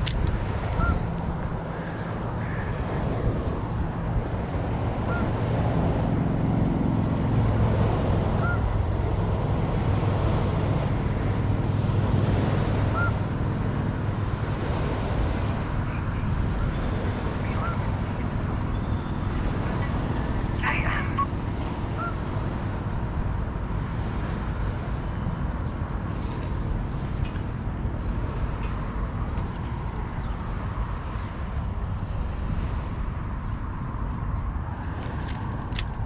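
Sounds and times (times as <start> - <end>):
low engine drone: 0.0 - 36.0
river water: 0.0 - 36.0
wind on microphone: 0.0 - 36.0.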